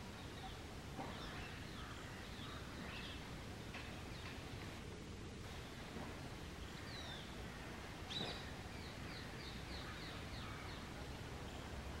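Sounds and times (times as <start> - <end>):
wild bird calls: 0.0 - 4.4, 6.6 - 11.8.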